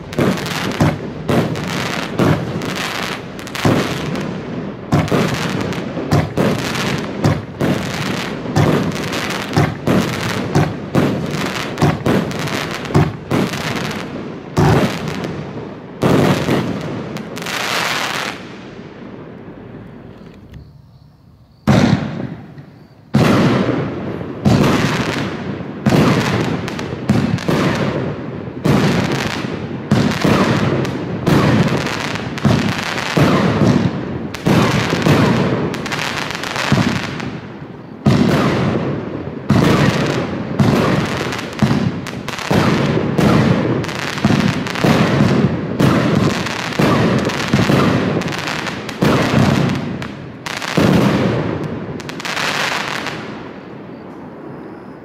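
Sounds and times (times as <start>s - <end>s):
firework bangs: 0.0s - 20.1s, 21.6s - 55.0s
firework crackling: 0.0s - 20.6s, 21.7s - 55.0s.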